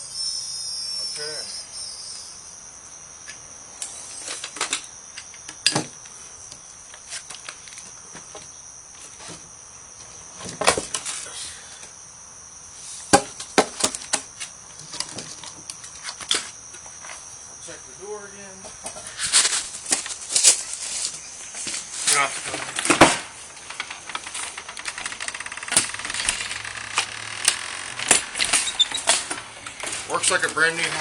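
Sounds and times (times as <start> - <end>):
steady high whine: 0.0 - 31.0.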